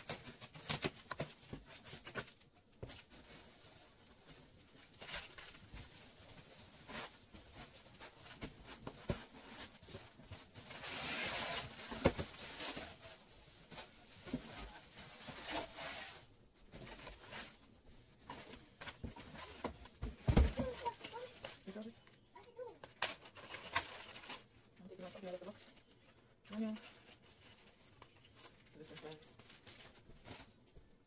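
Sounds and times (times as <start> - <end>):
plastic and cardboard rustling: 0.0 - 31.0.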